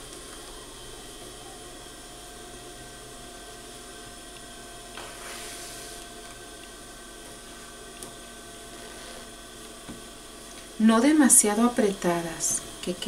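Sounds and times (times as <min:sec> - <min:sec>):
faint hiss and hum: 0:00.0 - 0:13.0.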